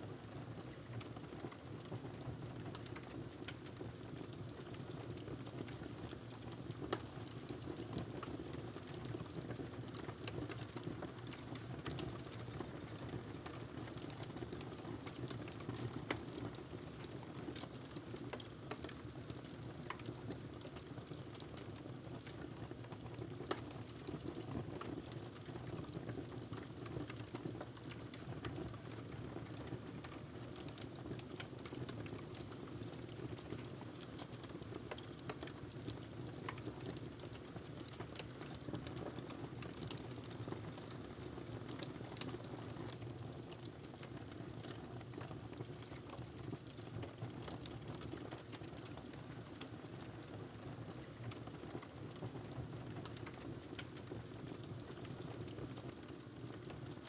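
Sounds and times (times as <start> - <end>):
wood fire crackling: 8.1 - 50.3, 50.9 - 57.0.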